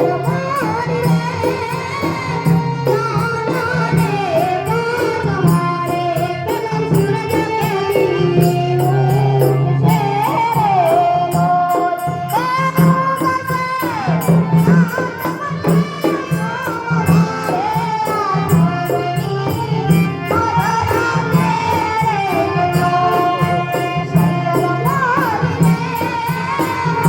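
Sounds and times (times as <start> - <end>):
drum beat: 0.0 - 27.0
girl singing: 0.0 - 27.0.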